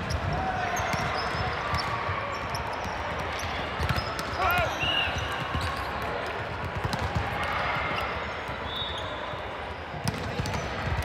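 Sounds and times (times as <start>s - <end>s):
hubbub of indoor hall: 0.0s - 11.0s.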